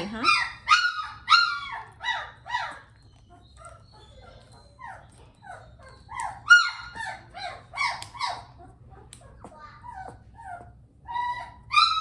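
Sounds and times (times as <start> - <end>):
puppy yelping and whimpering: 0.0 - 12.0.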